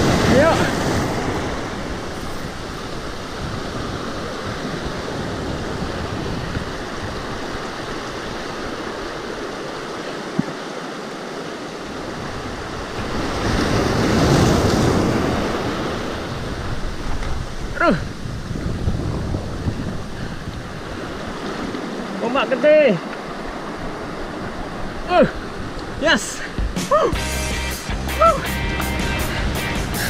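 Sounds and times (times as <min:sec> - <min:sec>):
surf washing over boulders: 0:00.0 - 0:27.2.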